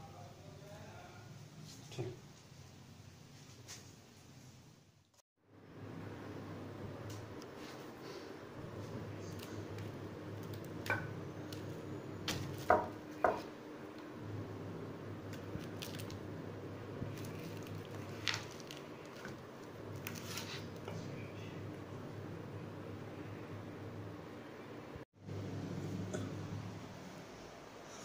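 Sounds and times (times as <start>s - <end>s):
steady low hum: 5.4s - 28.0s.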